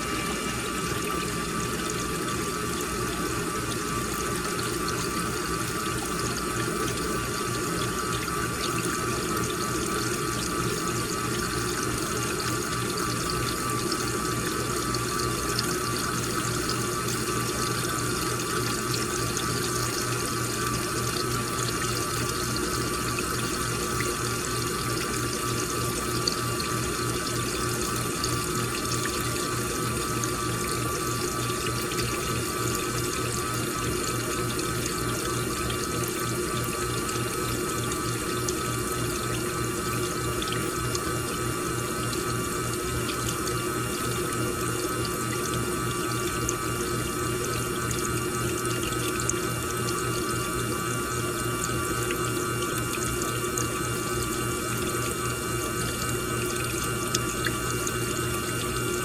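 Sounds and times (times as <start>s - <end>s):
washing machine low pulsing hum: 0.0s - 59.0s
water running into drum: 0.0s - 59.0s.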